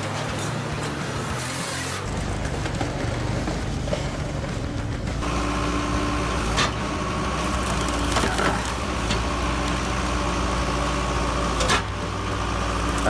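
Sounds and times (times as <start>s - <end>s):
wood cracking: 0.0s - 13.0s
wood-splitting machine hum: 0.0s - 13.0s.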